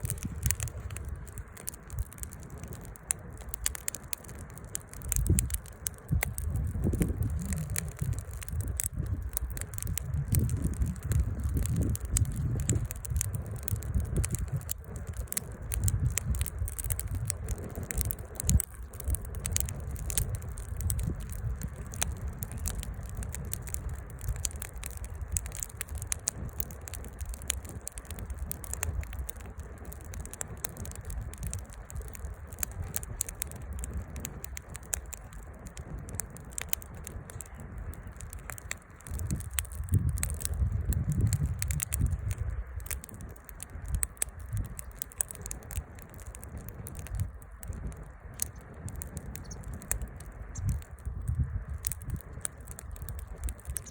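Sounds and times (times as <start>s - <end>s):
campfire crackling and popping: 0.0s - 53.9s
low uneven rumble: 0.0s - 53.9s.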